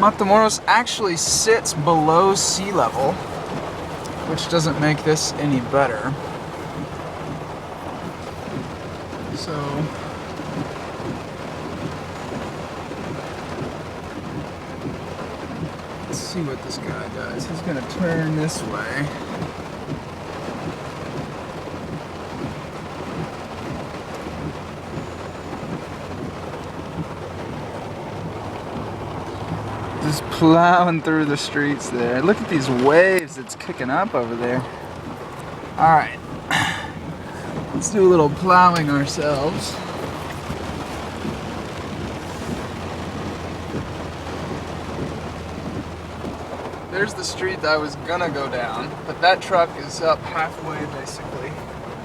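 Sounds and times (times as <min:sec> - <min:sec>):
heavy rain falling: 0:00.0 - 0:52.0
low steady rumble: 0:00.0 - 0:52.0
truck engine hum: 0:00.0 - 0:52.0
water rushing: 0:00.0 - 0:52.0.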